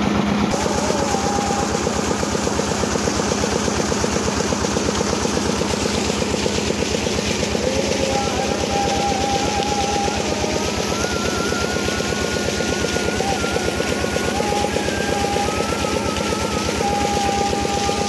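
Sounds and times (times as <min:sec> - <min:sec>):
diesel pump engine chugging: 0:00.0 - 0:18.0
water gushing from pipe: 0:00.0 - 0:18.0.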